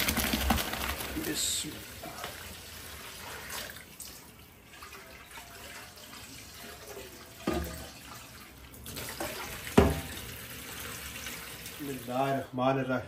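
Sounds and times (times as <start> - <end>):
water splashing in a sink: 0.0 - 12.3.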